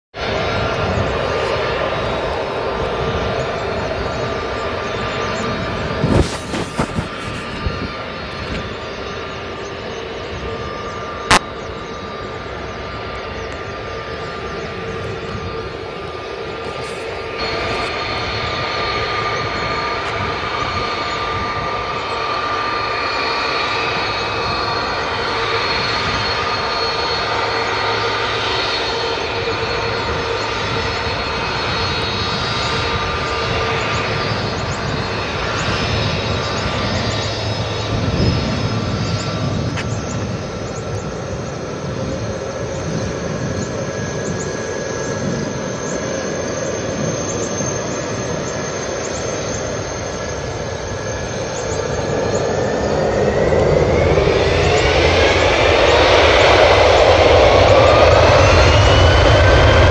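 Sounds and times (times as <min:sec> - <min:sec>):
jet engines whining: 0:00.2 - 0:59.9.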